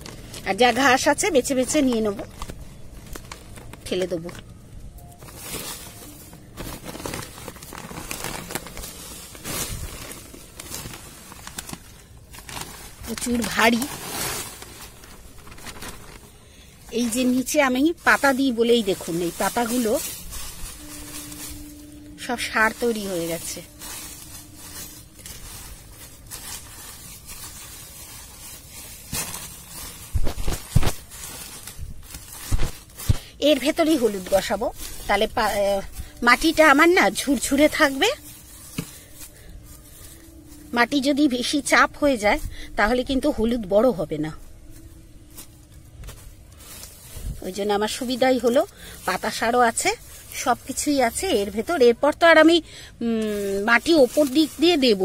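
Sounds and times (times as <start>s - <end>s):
hands rustling through compost: 0.0s - 55.0s
plastic bag crinkling: 0.0s - 55.0s.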